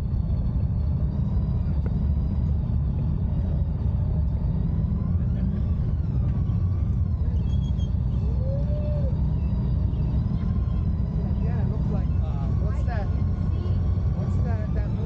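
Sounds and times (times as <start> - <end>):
motorcycle engine low rumble: 0.0 - 15.0.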